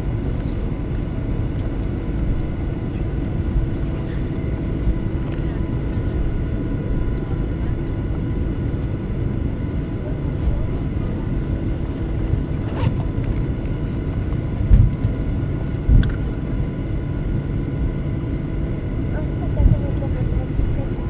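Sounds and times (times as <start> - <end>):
aircraft cabin rumble: 0.0 - 21.0
jet engine whine: 0.0 - 21.0.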